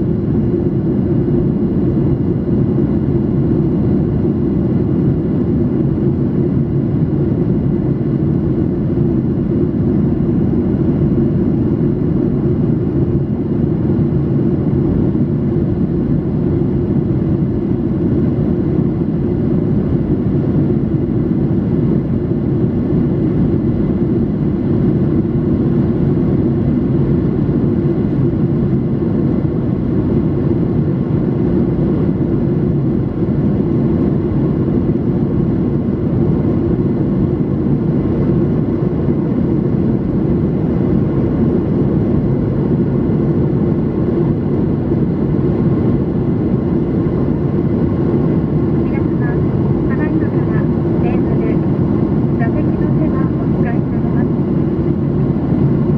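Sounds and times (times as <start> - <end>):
airflow over fuselage: 0.0 - 55.9
jet engines droning: 0.0 - 55.9.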